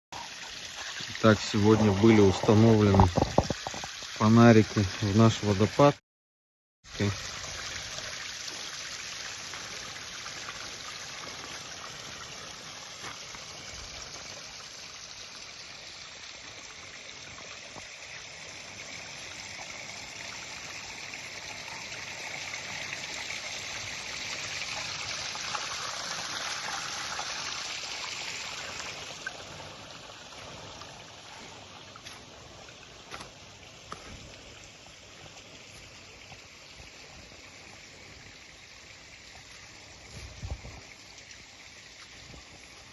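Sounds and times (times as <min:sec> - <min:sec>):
water trickling over stones: 0:00.2 - 0:06.0, 0:06.9 - 0:42.9.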